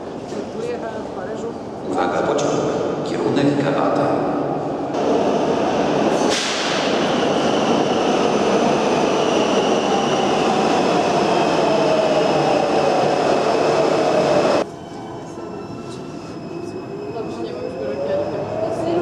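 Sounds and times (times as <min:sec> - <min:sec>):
metro train rumbling into station: 0:00.0 - 0:19.0.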